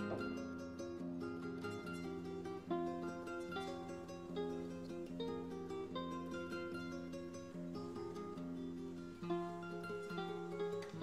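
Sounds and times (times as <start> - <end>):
gentle plucked guitar music: 0.0 - 11.0.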